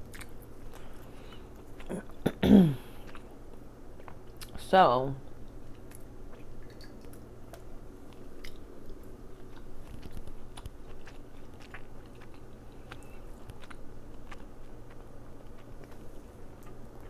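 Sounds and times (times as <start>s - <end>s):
person chewing: 0.0s - 4.6s, 5.3s - 17.0s.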